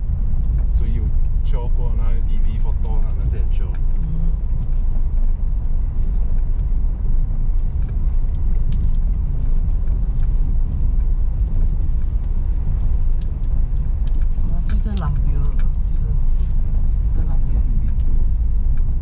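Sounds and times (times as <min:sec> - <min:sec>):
car rumbling on rocky track: 0:00.0 - 0:19.0.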